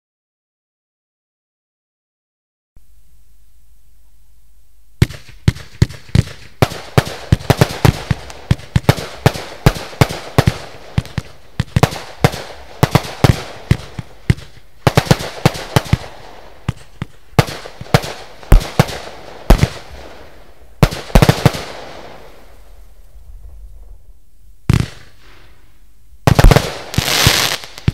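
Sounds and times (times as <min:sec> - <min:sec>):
firework bangs: 0:05.0 - 0:27.9
firework crackle: 0:05.0 - 0:27.9.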